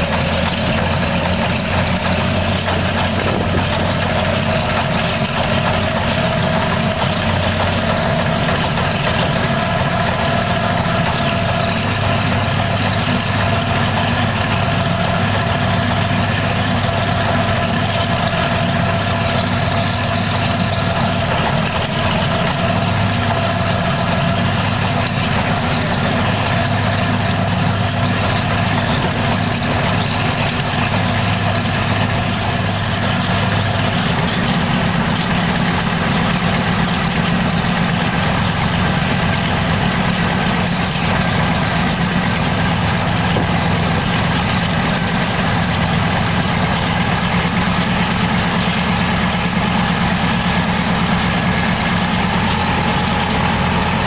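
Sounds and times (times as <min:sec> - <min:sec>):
radial engine running: 0:00.0 - 0:54.0.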